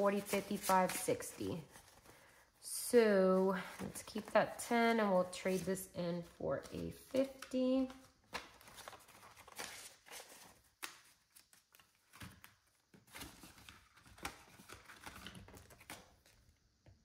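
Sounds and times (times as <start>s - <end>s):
paper banknotes rustling: 0.0s - 2.4s, 3.1s - 16.4s.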